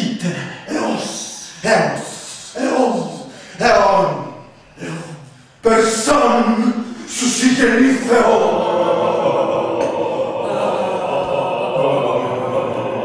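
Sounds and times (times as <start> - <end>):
held chant-like vocal tone: 0.0 - 13.0.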